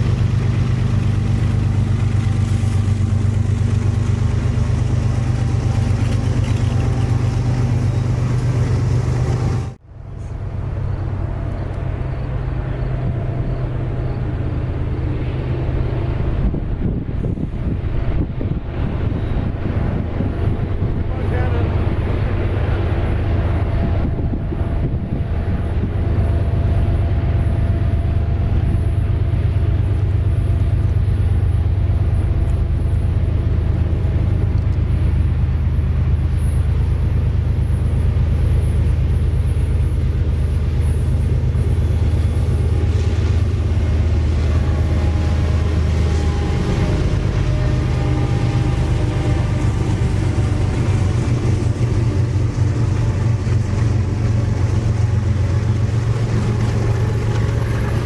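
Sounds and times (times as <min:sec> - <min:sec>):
diesel locomotive engines running: 0:00.0 - 0:58.0.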